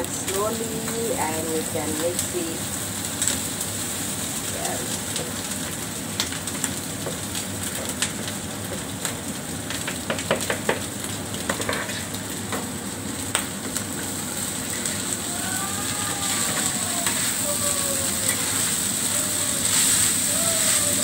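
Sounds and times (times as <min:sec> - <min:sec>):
food sizzling on griddle: 0:00.0 - 0:21.0.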